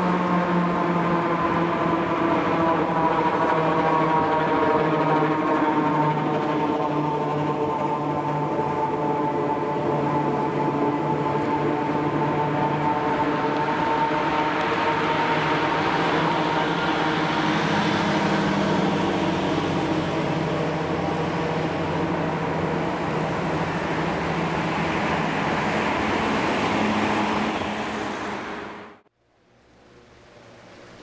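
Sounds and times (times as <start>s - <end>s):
street traffic: 0.0s - 31.0s
tram humming: 0.0s - 31.0s.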